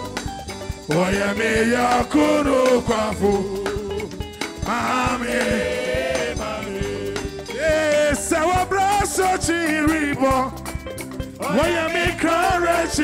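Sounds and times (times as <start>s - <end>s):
band with bass keyboard and drums: 0.0s - 13.0s
singers on microphones: 0.9s - 10.6s, 11.4s - 13.0s.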